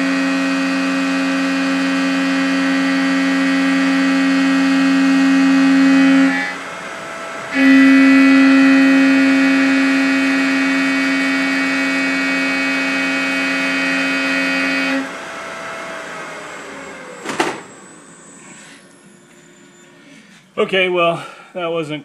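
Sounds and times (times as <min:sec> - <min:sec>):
milling machine cutting hum: 0:00.0 - 0:19.9
spindle winding down: 0:00.0 - 0:19.9.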